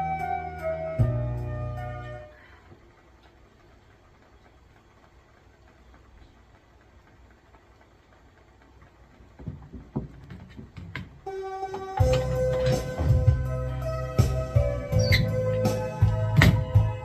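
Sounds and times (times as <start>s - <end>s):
wood fire crackling: 0.0s - 17.0s
fire popping: 2.8s - 17.0s.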